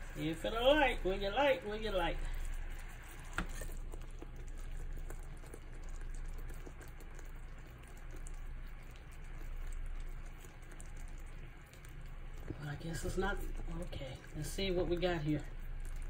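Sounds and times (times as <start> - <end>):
sauce bubbling and sizzling in pan: 0.0 - 16.0.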